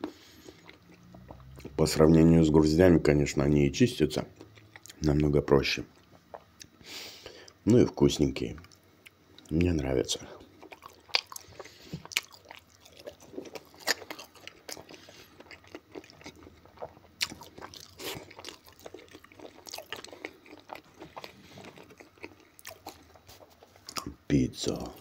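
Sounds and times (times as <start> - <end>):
person chewing crunchy food: 0.0 - 2.1, 4.2 - 7.6, 8.6 - 25.0.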